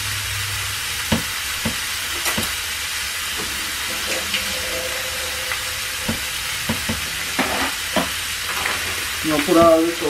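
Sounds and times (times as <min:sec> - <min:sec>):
ground meat sizzling in pot: 0:00.0 - 0:10.0.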